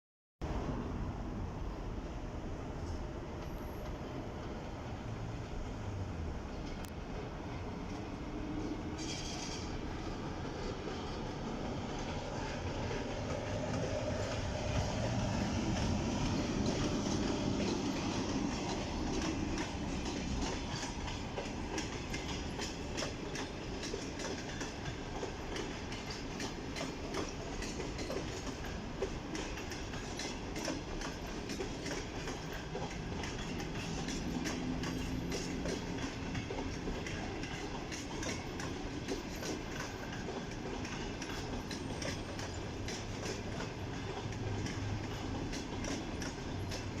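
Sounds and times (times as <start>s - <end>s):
train wheels clicking over rails: 2.7s - 47.0s.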